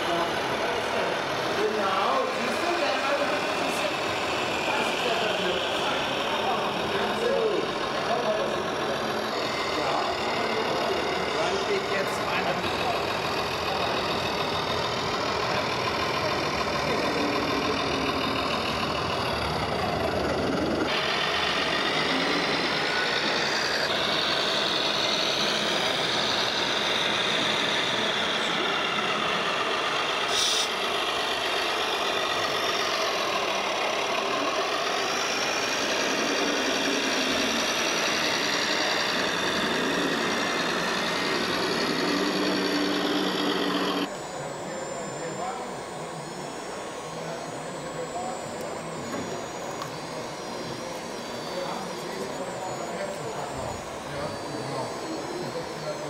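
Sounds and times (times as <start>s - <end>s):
model truck engine sound: 0.0s - 56.0s
whine rising and falling: 0.0s - 56.0s.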